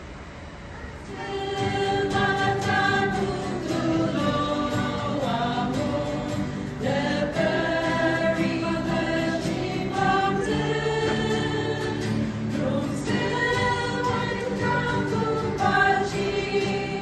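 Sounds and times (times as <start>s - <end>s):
choir singing held notes: 1.0s - 17.0s.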